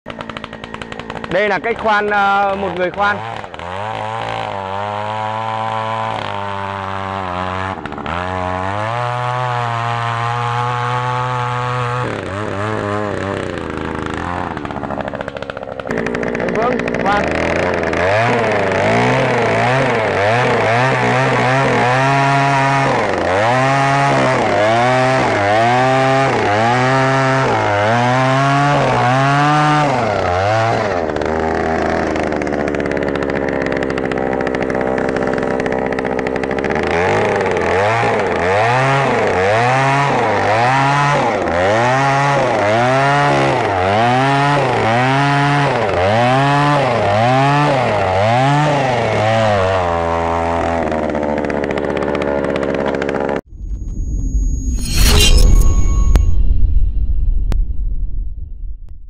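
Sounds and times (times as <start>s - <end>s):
earth auger engine revving: 0.1s - 55.4s.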